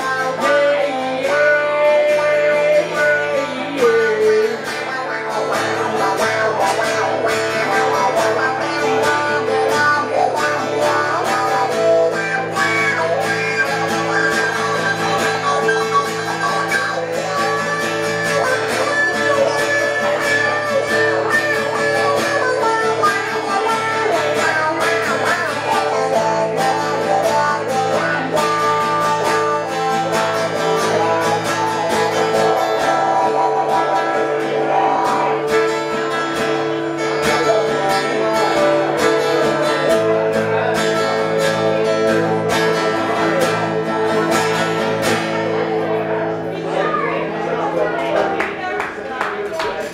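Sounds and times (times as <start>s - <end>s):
two guitars playing: 0.0s - 49.9s.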